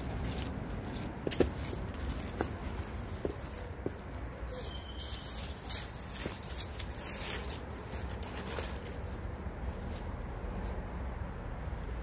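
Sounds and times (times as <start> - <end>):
dry leaves rustling and crackling: 0.0 - 10.8.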